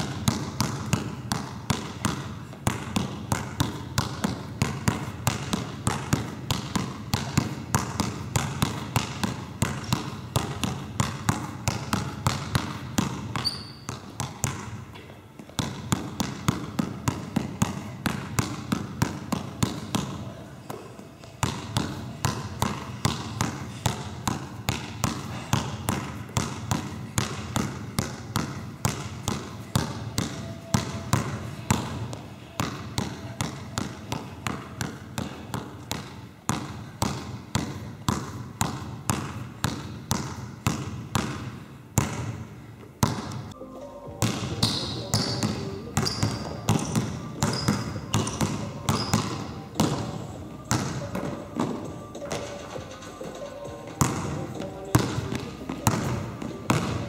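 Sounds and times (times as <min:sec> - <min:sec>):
basketball dribbling on wooden floor: 0:00.0 - 0:43.6, 0:44.2 - 0:57.0.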